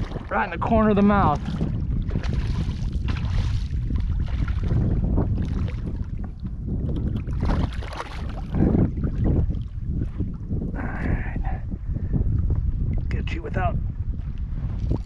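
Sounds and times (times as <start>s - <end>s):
water lapping against hull: 0.0s - 15.0s
wind buffeting microphone: 0.0s - 15.0s.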